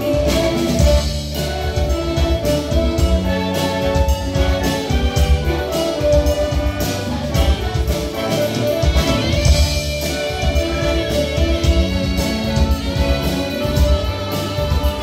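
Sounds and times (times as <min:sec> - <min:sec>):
low brass: 0:00.0 - 0:15.0
trumpets: 0:00.0 - 0:15.0.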